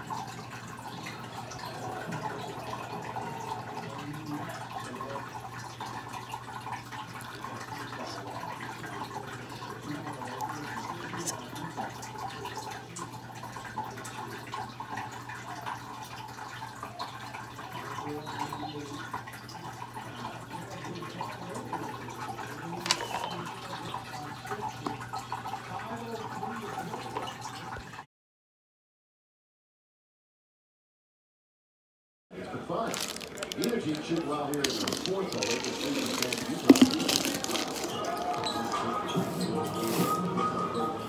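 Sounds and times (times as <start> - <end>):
water trickling and dripping: 0.0 - 28.0, 32.8 - 38.9.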